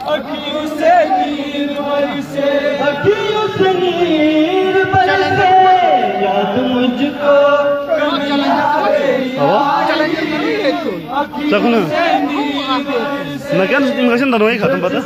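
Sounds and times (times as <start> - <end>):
men singing together: 0.0 - 15.0.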